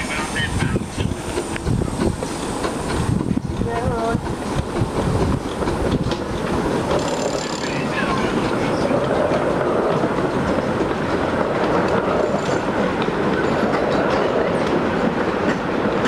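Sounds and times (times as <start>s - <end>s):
miniature train wheels rumbling: 0.0s - 16.0s
clicks of wheels on track: 1.0s - 16.0s.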